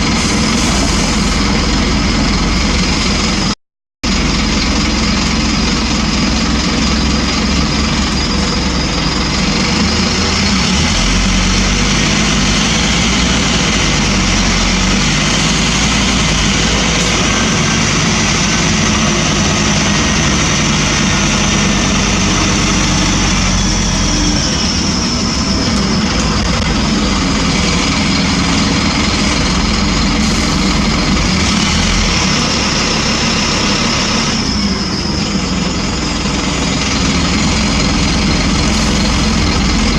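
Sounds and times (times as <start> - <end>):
bus diesel engine drone: 0.0 - 39.9
high whine: 0.0 - 39.9.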